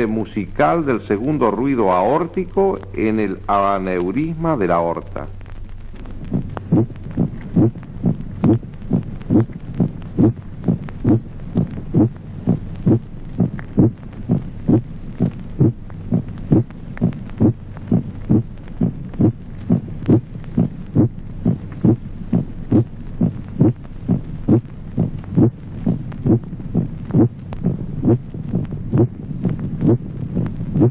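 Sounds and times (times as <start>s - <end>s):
heartbeat through stethoscope: 5.0s - 30.9s.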